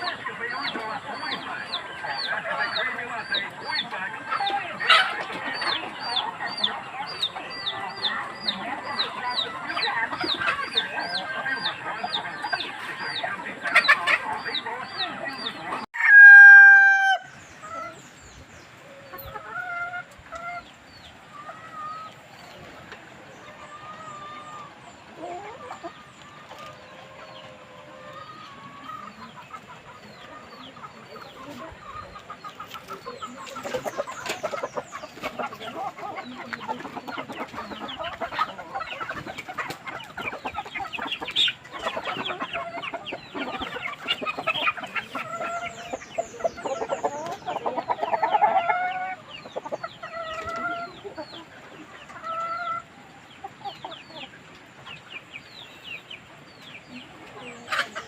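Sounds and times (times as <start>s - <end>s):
chickens clucking and calling: 0.0s - 58.0s.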